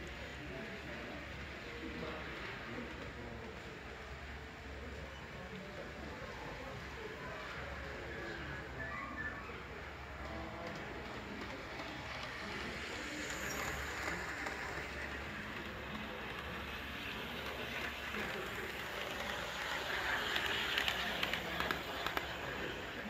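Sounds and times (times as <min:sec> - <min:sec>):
model trains running: 0:00.0 - 0:23.0
people talking faintly: 0:00.0 - 0:23.0.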